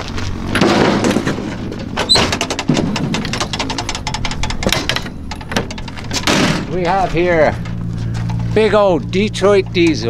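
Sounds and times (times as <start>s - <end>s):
metal door clanking and rattling: 0.5s - 8.6s.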